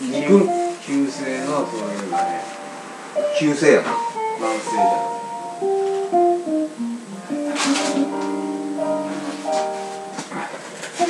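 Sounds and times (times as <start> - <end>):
plucked guitar melody: 0.0 - 11.0
strummed guitar chord: 0.0 - 11.0.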